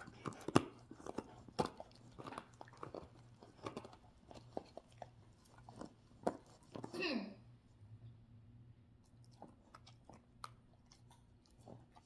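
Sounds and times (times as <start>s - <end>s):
dog gnawing on chew: 0.0s - 7.0s, 9.0s - 12.0s.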